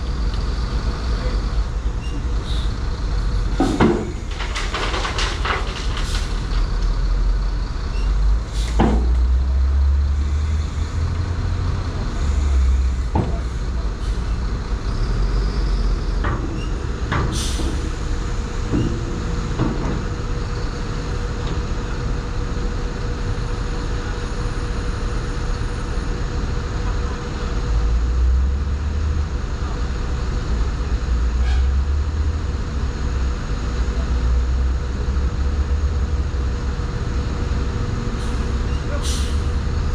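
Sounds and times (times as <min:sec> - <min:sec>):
diesel machinery rumbling: 0:00.0 - 0:39.9.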